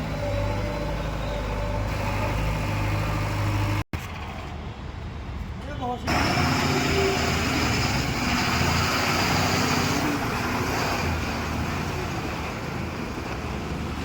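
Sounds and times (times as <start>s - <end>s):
backhoe diesel engine under load: 0.0s - 5.0s, 6.1s - 14.0s.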